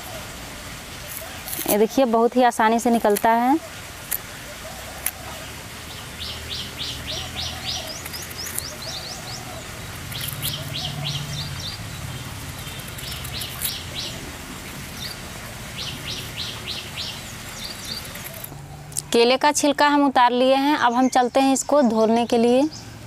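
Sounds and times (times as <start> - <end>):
small birds chirping: 0.9 - 23.0.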